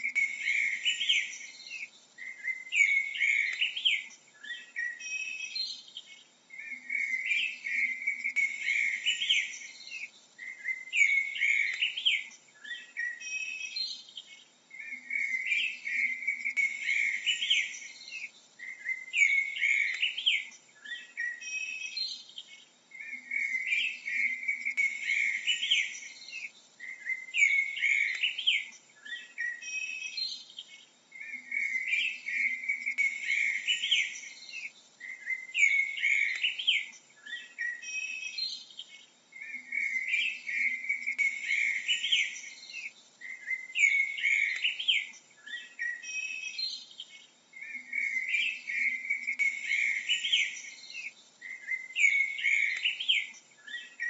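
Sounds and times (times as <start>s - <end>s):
blackbird singing: 0.0s - 54.0s.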